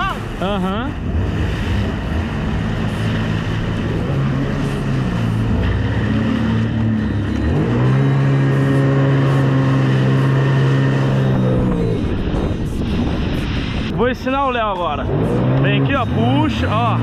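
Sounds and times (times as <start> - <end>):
jet ski engine revving: 0.0 - 17.0
rushing water: 0.0 - 17.0.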